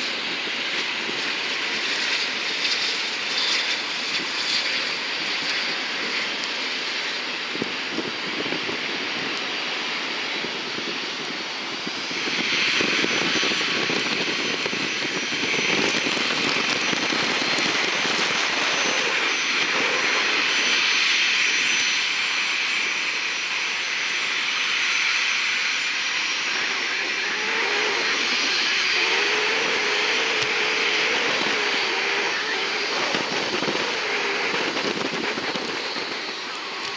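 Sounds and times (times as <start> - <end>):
airplane engines rushing: 0.0 - 36.9.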